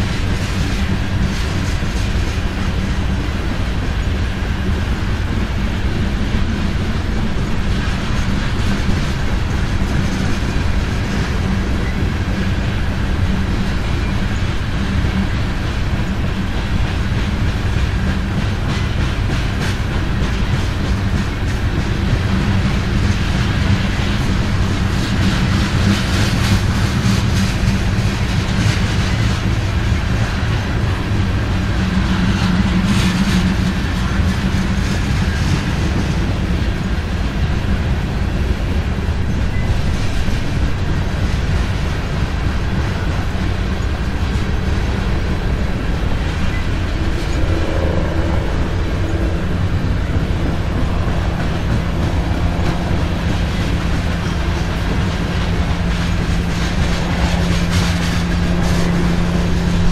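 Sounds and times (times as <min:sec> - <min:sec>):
steel wheels on rail: 0:00.0 - 0:59.9
wheels clacking over rail joints: 0:00.0 - 0:59.9.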